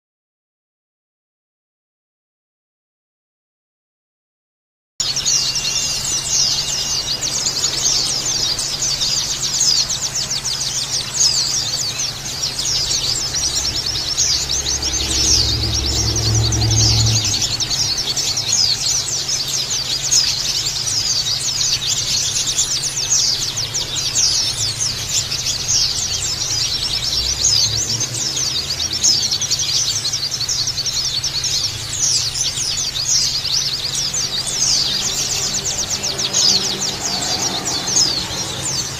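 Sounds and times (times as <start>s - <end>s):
birds chirping and trilling: 5.0s - 38.9s.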